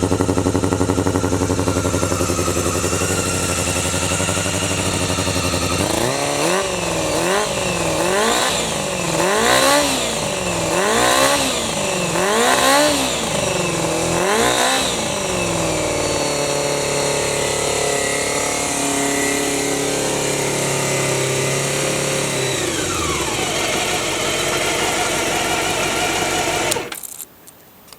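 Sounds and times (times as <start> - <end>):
motorcycle engine idling: 0.0 - 27.0
motorcycle engine revving: 0.0 - 27.0.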